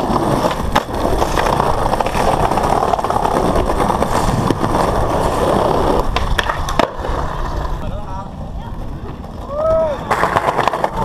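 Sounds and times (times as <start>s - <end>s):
skateboard wheels on brick: 0.0s - 11.0s.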